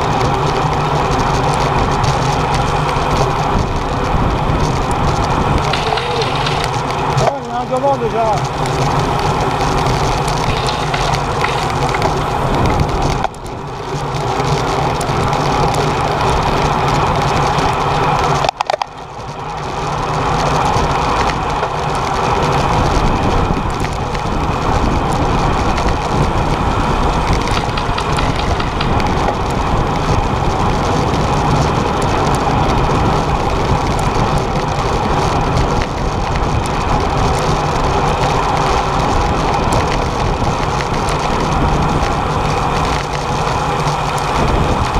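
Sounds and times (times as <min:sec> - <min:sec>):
wind rushing: 0:00.0 - 0:17.9, 0:19.4 - 0:44.9
road noise: 0:00.0 - 0:44.9.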